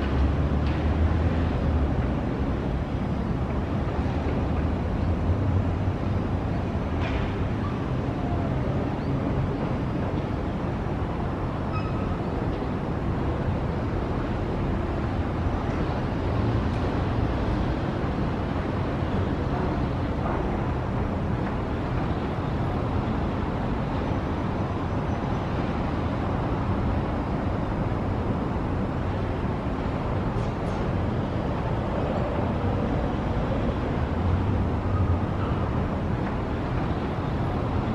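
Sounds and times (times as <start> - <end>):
distant road traffic rumble: 0.0 - 37.9.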